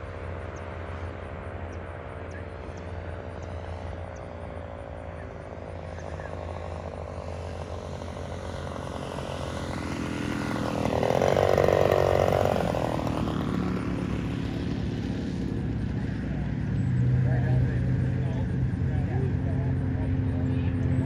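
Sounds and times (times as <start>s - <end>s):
model airplane engine and propeller: 0.0s - 21.0s.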